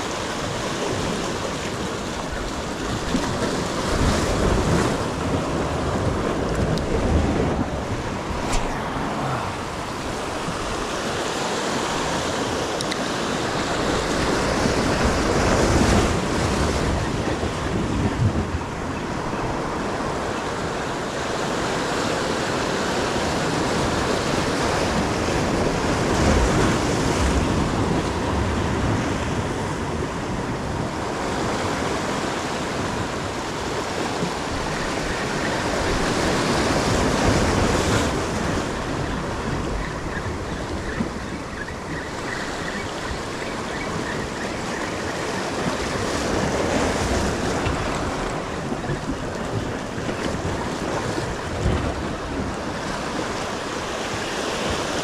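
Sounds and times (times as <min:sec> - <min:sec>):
surf washing on shore: 0:00.0 - 0:55.0
wind buffeting microphone: 0:00.0 - 0:55.0.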